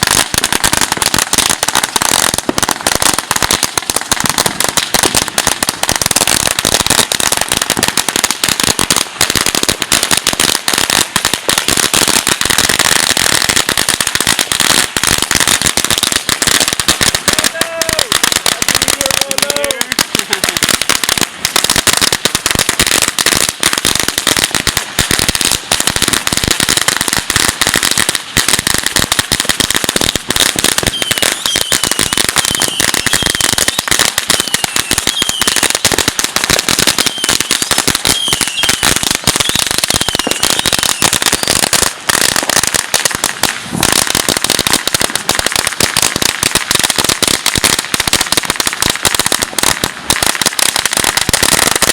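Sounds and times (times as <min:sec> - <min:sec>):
firecrackers crackling and popping: 0:00.0 - 0:51.9.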